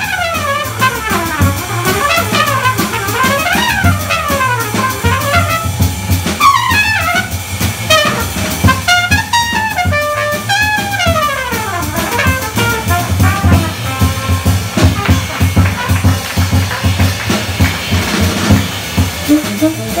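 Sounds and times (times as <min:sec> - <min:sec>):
trumpet solo: 0:00.0 - 0:17.6, 0:18.2 - 0:20.0
drum kit: 0:00.0 - 0:20.0
horn notes: 0:00.0 - 0:20.0
walking double bass: 0:00.0 - 0:20.0.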